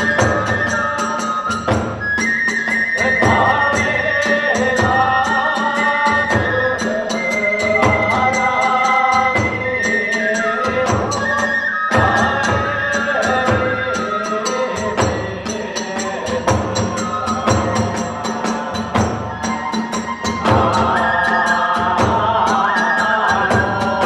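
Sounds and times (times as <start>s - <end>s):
bamboo flute melody: 0.0s - 24.0s
taiko drums beating: 0.0s - 24.0s.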